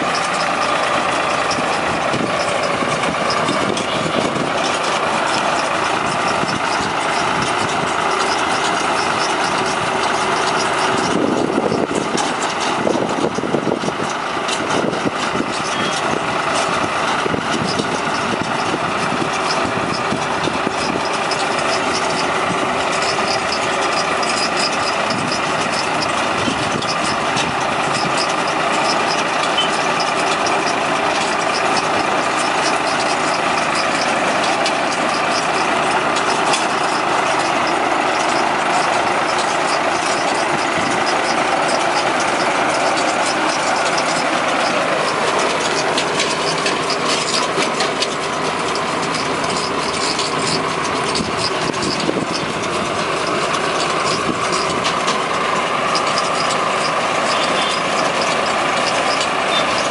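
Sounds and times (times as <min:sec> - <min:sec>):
straw baler machinery: 0:00.0 - 0:59.9
tractor engine running: 0:00.0 - 0:59.9.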